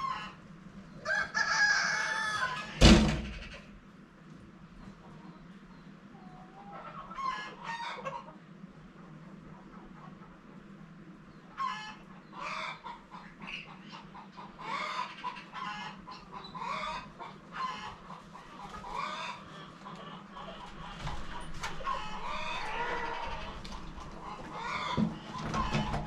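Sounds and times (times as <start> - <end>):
chickens clucking: 0.0 - 3.7, 4.8 - 26.0.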